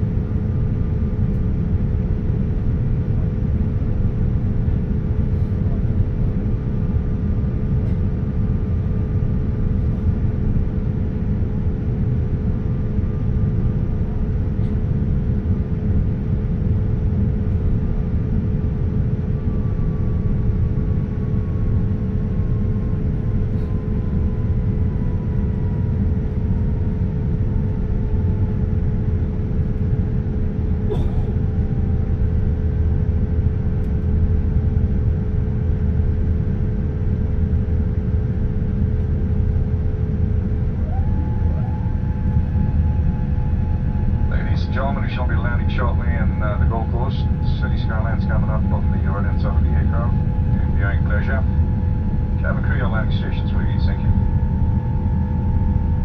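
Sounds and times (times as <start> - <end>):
aircraft cabin rumble: 0.0 - 56.0
faint whine: 11.0 - 56.0.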